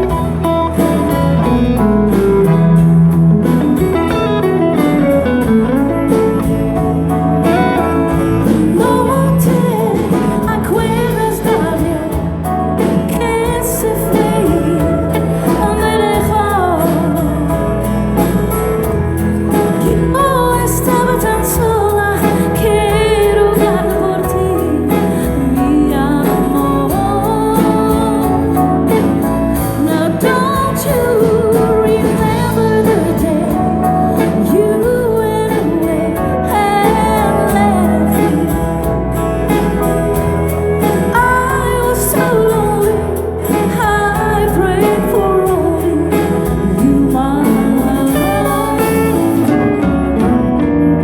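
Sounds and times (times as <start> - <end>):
guitar: 0.0 - 51.0
live country band playing: 0.0 - 51.0
person singing: 3.8 - 18.9, 19.5 - 51.0.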